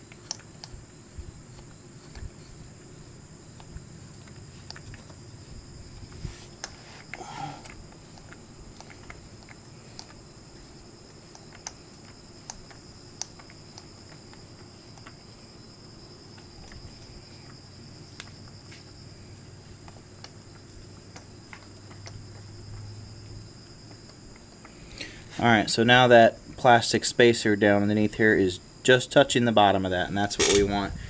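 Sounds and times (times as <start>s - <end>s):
high-pitched background whine: 0.0s - 31.0s.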